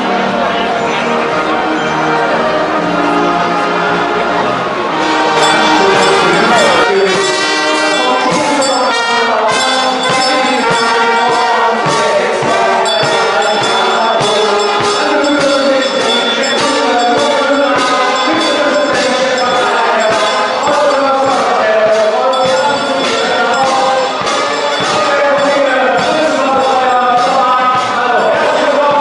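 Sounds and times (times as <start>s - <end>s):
brass band playing a march: 0.1s - 29.0s
steady drum beat: 5.0s - 29.0s.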